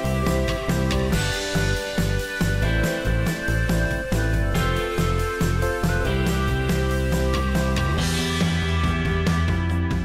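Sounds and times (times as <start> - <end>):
music with rhythmic bass line: 0.0 - 10.0.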